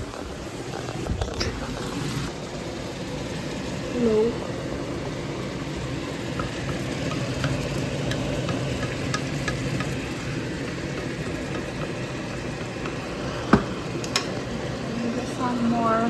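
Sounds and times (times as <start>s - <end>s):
onions frying in a pot: 0.0s - 16.0s.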